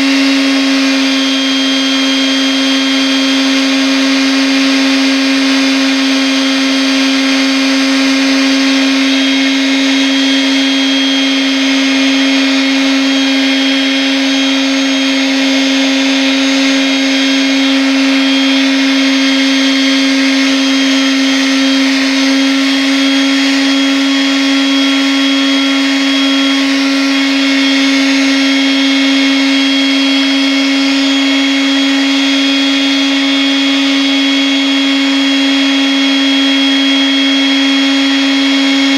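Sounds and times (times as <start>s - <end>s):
electric sander running: 0.0s - 38.9s.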